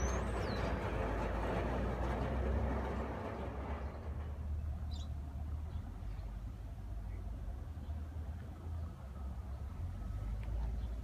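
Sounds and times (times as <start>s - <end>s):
diesel machinery rumbling: 0.0s - 11.0s.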